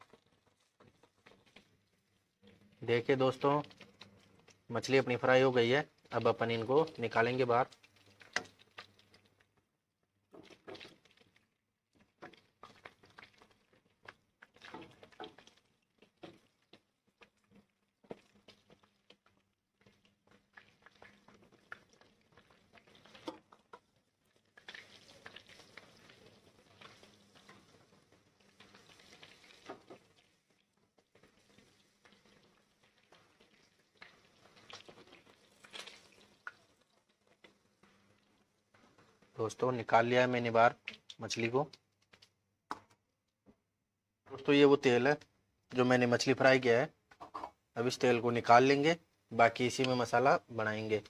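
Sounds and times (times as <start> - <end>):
fish crackling in hot oil: 0.0 - 43.0.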